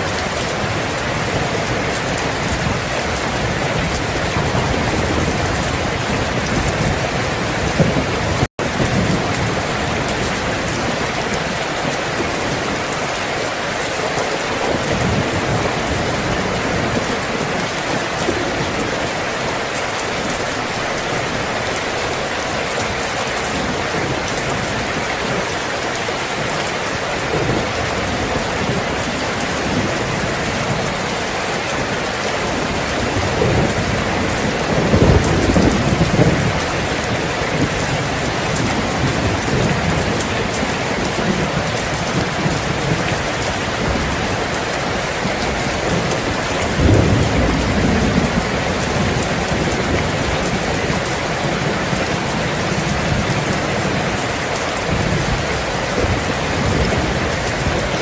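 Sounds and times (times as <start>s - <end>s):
thunder rumbling: 0.0s - 13.2s, 14.0s - 26.0s, 26.7s - 58.0s
rain falling: 0.0s - 58.0s.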